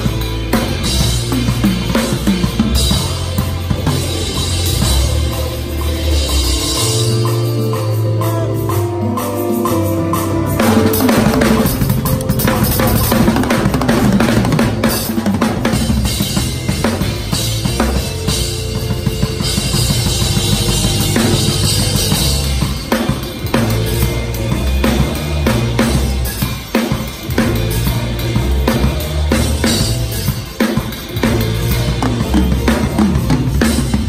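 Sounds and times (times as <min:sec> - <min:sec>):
acoustic drum kit playing hard: 0:00.0 - 0:34.0
held bass notes and chords: 0:00.0 - 0:34.0.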